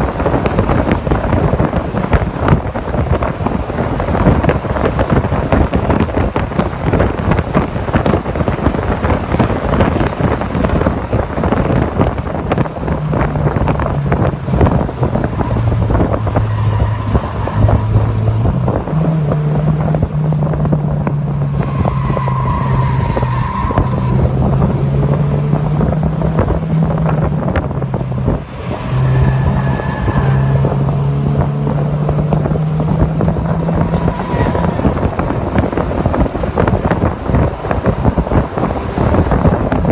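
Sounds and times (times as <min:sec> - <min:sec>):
car engine running hard: 0:00.0 - 0:39.9
wind buffeting on microphone: 0:00.0 - 0:39.9.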